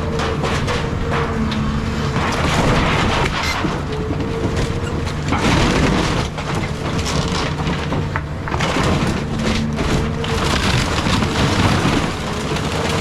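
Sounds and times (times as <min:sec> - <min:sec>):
excavator engine hum: 0:00.0 - 0:13.0
wood crunching and splintering: 0:00.0 - 0:13.0.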